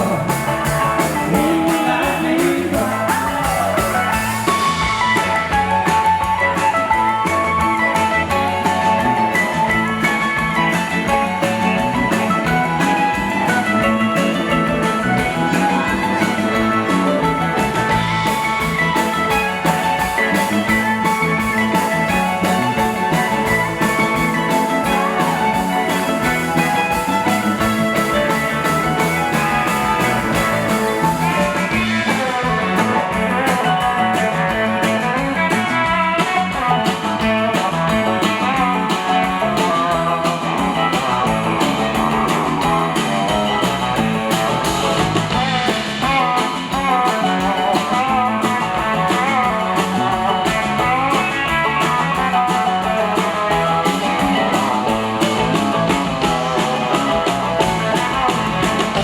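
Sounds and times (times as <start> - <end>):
electric guitar: 0.0 - 59.0
live blues band: 0.0 - 59.0.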